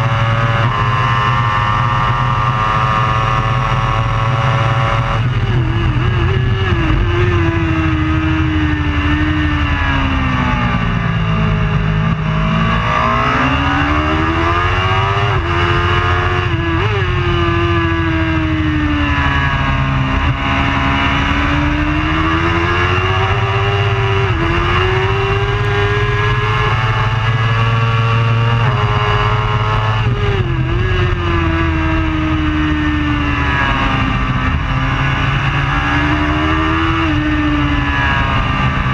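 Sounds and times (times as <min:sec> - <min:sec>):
race motorcycle engine revving: 0:00.0 - 0:38.9.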